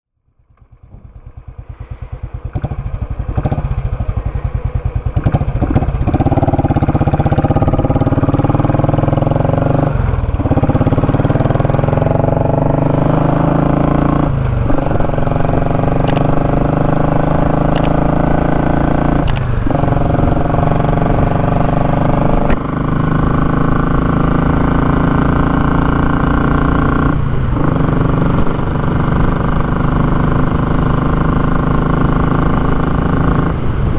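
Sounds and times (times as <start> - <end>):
motorcycle engine accelerating: 0.3 - 33.9.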